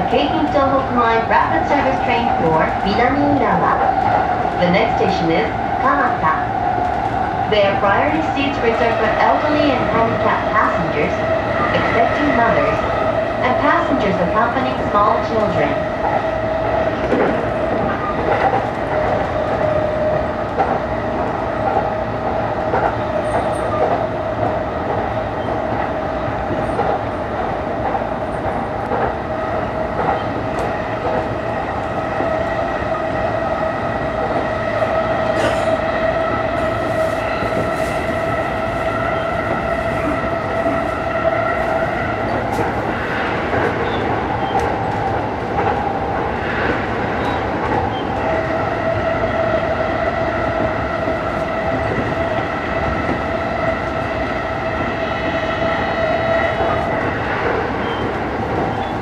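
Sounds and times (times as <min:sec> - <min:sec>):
train interior hum and rumble: 0:00.0 - 0:59.0.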